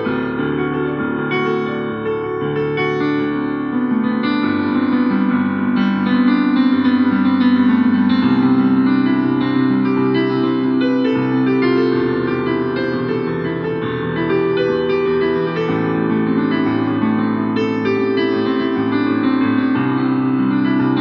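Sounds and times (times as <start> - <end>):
piano-like keyboard chords: 0.0 - 21.0.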